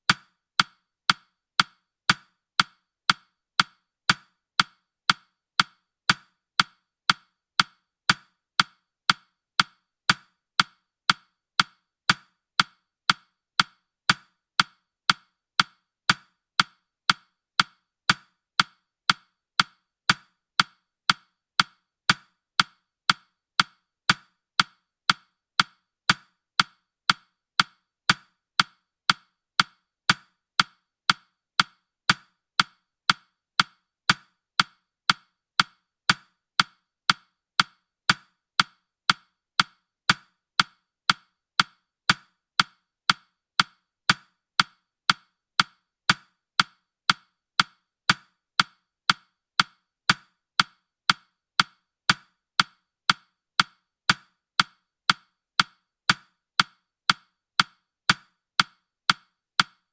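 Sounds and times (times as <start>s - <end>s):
clock-like ticking clicks: 0.0s - 59.9s.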